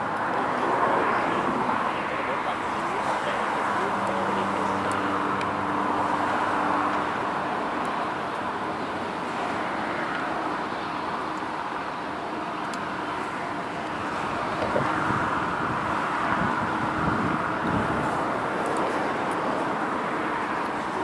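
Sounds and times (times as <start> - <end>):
vehicle noise roar: 0.0 - 21.0.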